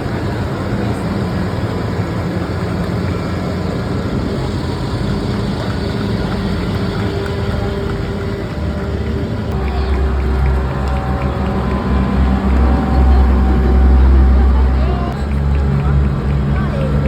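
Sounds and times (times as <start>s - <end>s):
heavy engines droning: 0.0s - 17.0s.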